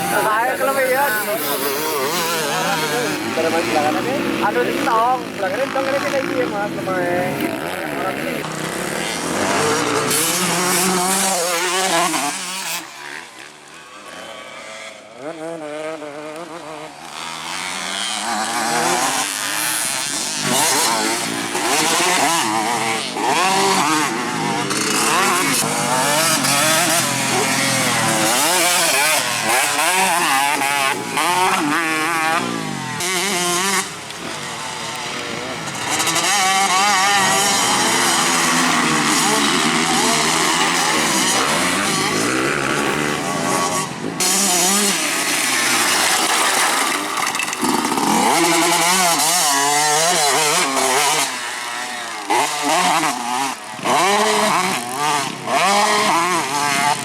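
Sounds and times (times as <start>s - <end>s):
motocross bikes revving: 0.0s - 57.0s.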